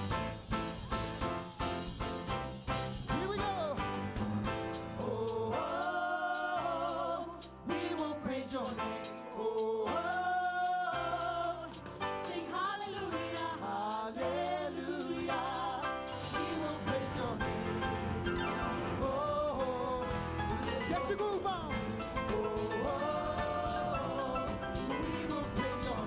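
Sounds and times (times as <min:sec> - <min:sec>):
band with drums: 0:00.0 - 0:10.3, 0:11.2 - 0:26.0
vocalists singing: 0:04.7 - 0:26.0.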